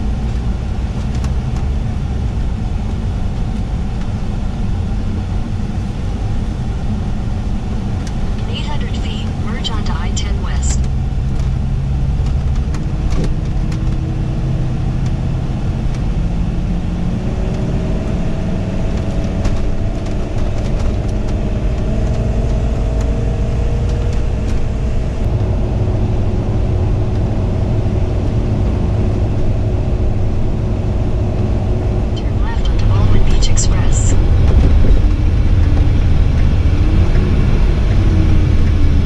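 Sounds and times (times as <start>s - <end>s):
motorhome engine: 0.0s - 39.0s
road rumble: 0.0s - 39.0s.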